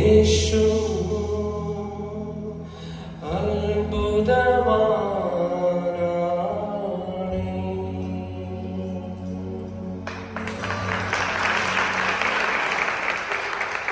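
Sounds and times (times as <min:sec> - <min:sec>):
electronic keyboard accompaniment: 0:00.0 - 0:13.3.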